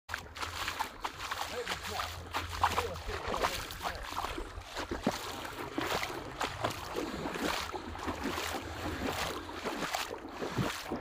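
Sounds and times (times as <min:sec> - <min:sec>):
shallow water splashing: 0:00.1 - 0:11.0.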